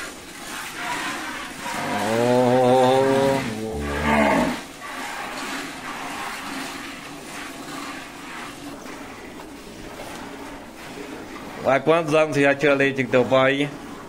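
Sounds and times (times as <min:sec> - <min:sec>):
milk squirting into metal bucket: 0:00.0 - 0:14.0.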